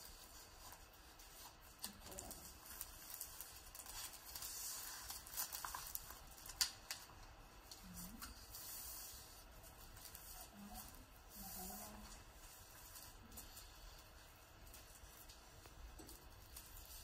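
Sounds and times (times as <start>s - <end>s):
low hum from a voice: 0.0s - 4.9s, 7.1s - 17.0s.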